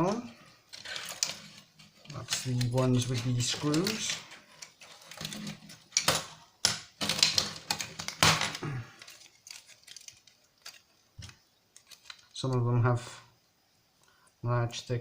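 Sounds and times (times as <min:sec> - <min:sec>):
plastic parts and pliers clicking: 0:00.1 - 0:12.4.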